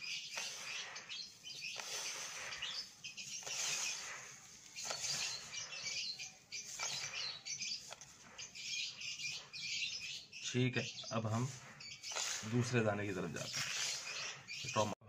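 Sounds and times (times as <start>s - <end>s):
bird seed rustling in a bowl: 0.0s - 15.0s.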